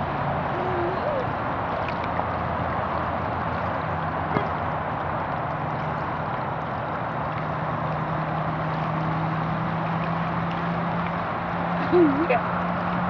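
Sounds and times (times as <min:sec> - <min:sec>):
low steady hum: 0:00.0 - 0:13.0
water rushing in a pool: 0:00.0 - 0:13.0.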